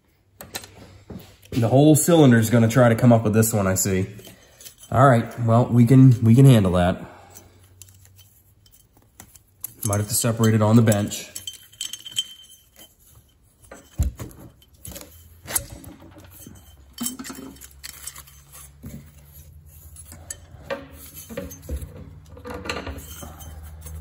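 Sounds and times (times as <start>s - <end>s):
light metal clinks and knocks: 3.5s - 24.0s.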